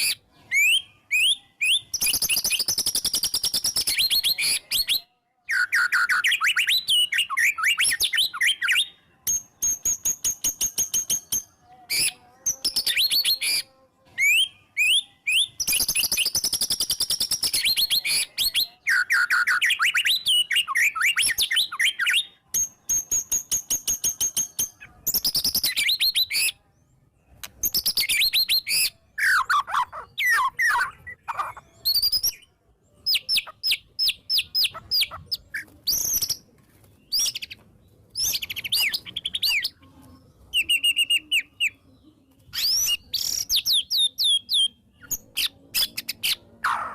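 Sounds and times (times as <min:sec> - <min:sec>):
bird singing loud varied song: 0:00.0 - 0:46.9.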